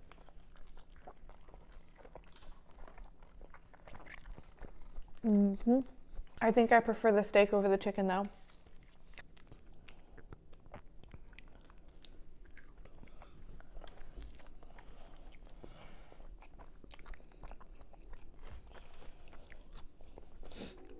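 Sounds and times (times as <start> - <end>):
person chewing and biting food: 0.0 - 5.2, 8.4 - 20.9.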